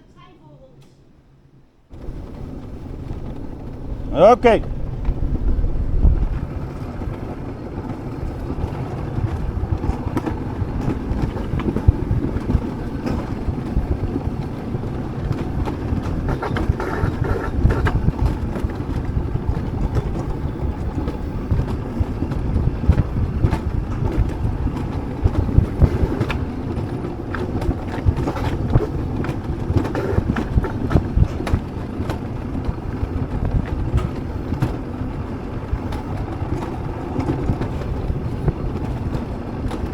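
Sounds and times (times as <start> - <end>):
coaster sled rattling on metal rail: 1.9 - 39.9.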